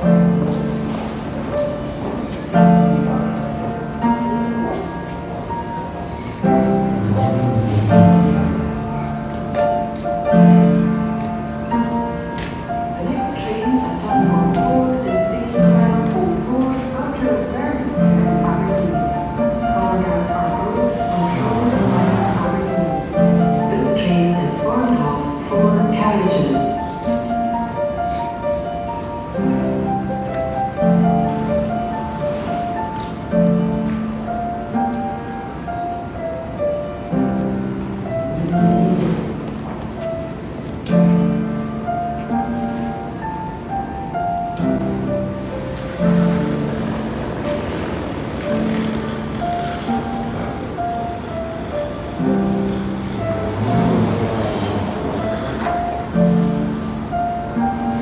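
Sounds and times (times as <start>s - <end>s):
upright piano chords: 0.0s - 58.0s.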